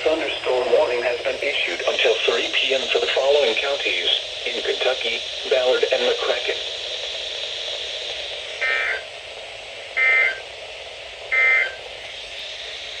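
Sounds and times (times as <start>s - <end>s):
buzzy data bursts: 0.0s - 13.0s
radio hiss: 0.0s - 13.0s.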